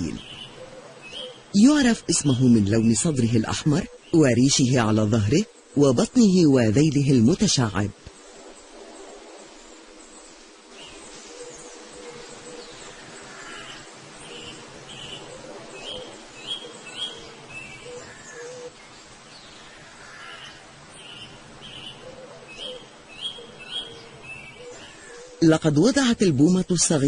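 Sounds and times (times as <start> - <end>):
bird chirping: 0.0 - 27.0.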